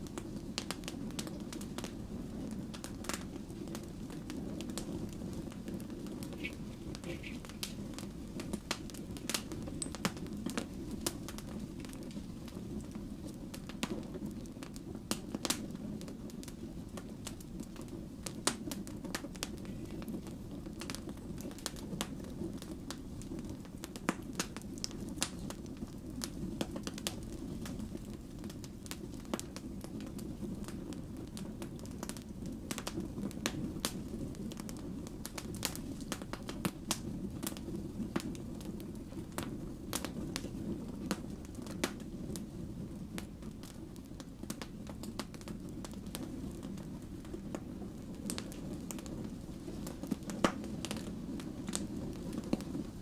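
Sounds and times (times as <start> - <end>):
pops and crackles of burning logs: 0.0 - 53.0
wood fire burning: 0.0 - 53.0.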